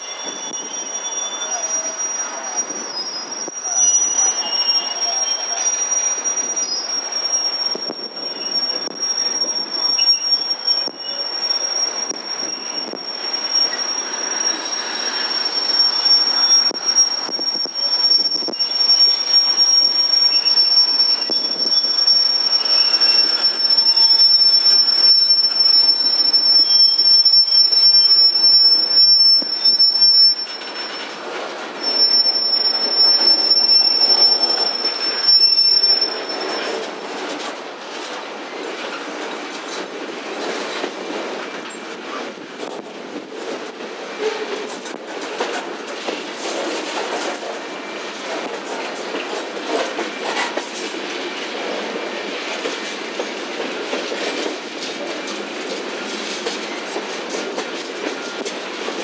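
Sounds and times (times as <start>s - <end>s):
train rumbling and clattering: 0.0s - 59.0s
train wheels squealing: 0.0s - 59.0s.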